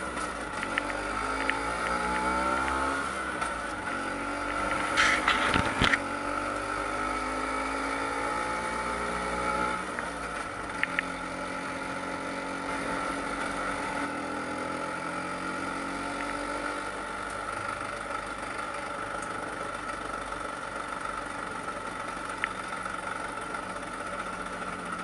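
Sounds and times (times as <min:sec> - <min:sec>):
scooter engine running: 0:00.0 - 0:25.0.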